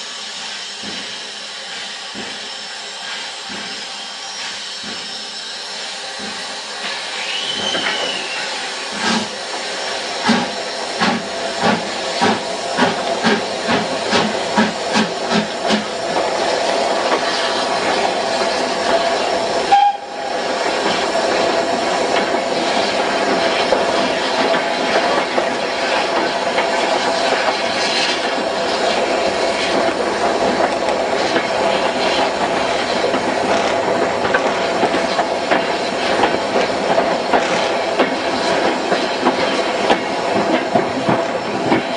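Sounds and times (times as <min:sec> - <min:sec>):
moving train rush: 0:00.0 - 0:41.9
steam locomotive exhaust beats: 0:00.0 - 0:41.9.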